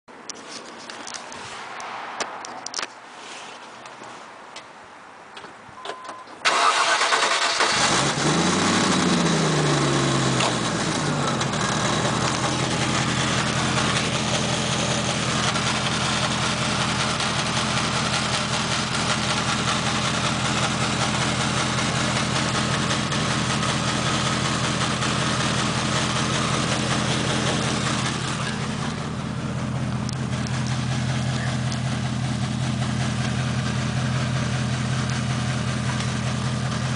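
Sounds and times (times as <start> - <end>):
car engine starting and idling: 5.8 - 36.9.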